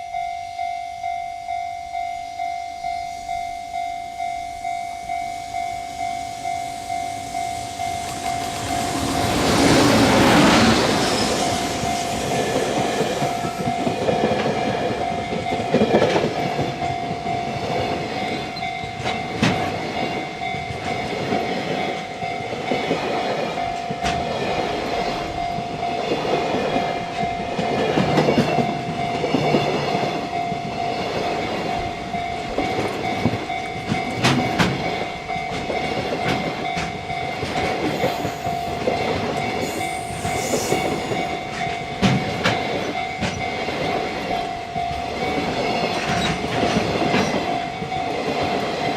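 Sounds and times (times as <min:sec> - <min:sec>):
crossing warning bell: 0:00.0 - 0:48.9
freight train passing: 0:00.0 - 0:48.9
wheels clattering on rail joints: 0:05.5 - 0:48.9.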